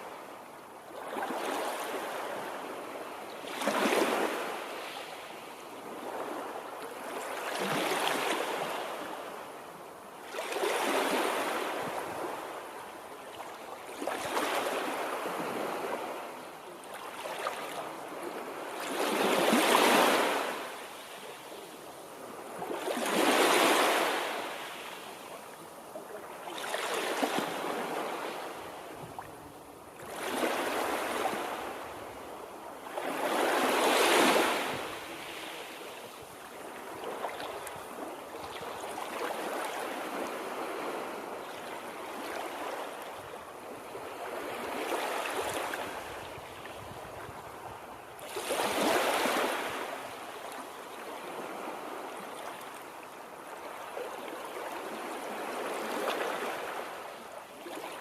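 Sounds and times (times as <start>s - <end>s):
waves washing onto a shore: 0.0s - 58.0s.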